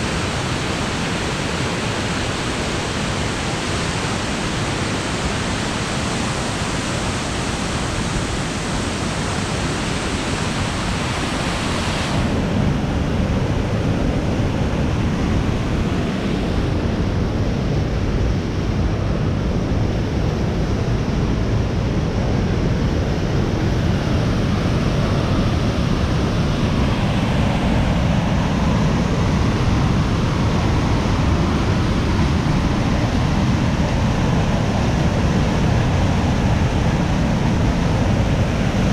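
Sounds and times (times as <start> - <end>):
rushing water and waterfall: 0.0 - 38.9.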